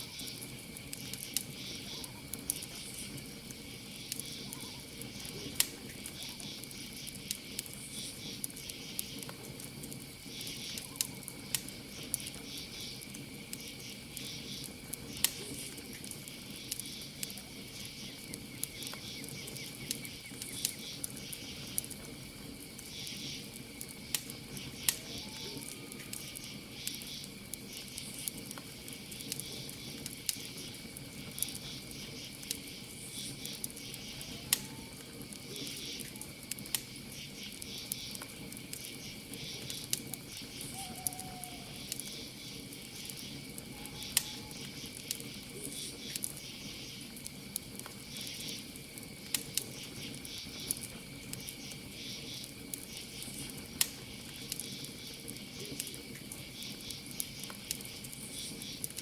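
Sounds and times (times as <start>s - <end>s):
campfire crackling and popping: 0.0s - 59.0s
crickets chirping: 0.0s - 59.0s.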